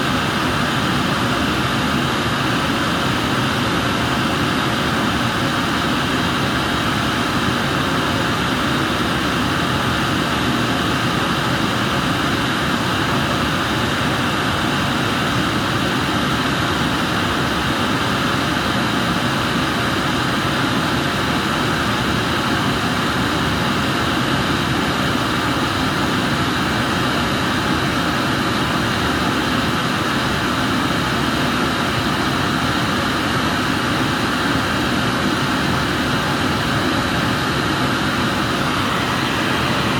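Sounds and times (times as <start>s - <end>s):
gas burner flame roaring: 0.0s - 39.9s.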